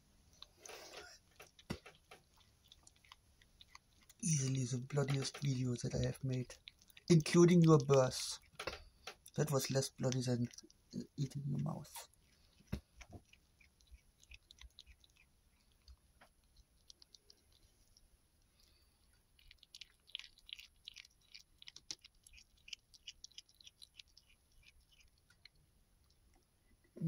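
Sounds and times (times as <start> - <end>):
kitten chewing: 0.2 - 27.0.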